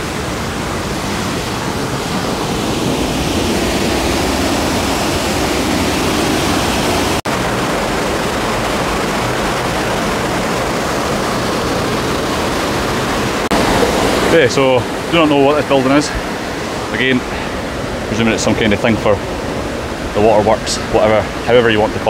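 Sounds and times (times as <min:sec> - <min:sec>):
water rushing through stone channel: 0:00.0 - 0:22.0.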